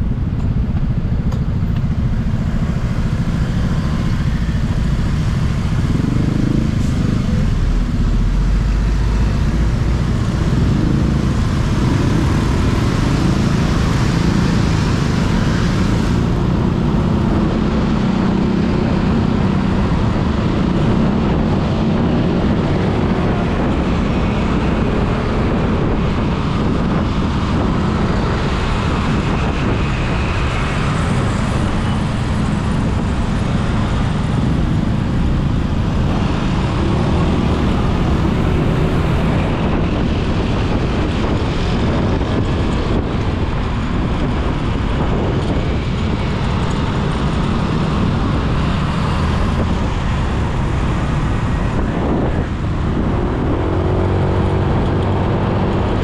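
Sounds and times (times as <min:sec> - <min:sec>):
motorcycle engine: 0:00.0 - 0:56.0
road traffic: 0:00.0 - 0:56.0.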